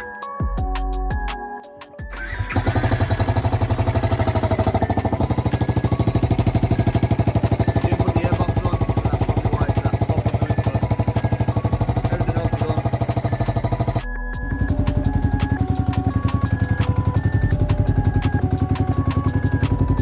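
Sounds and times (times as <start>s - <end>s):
motorcycle engine idling: 2.4s - 20.0s.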